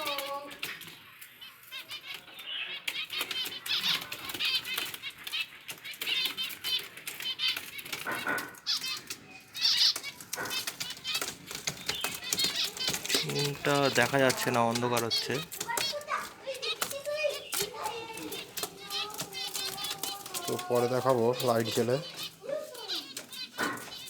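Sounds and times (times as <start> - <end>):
birds clicking in cages: 0.0 - 24.0
finches chirping: 0.0 - 24.0
wings fluttering: 0.0 - 24.0.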